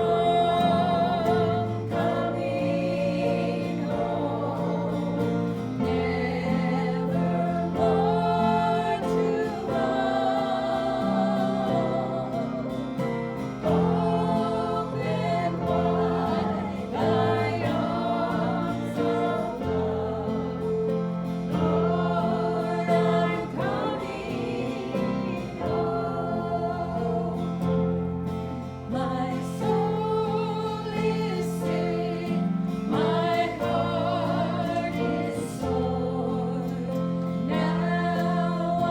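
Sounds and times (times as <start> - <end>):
group singing gospel in harmony: 0.0 - 38.9.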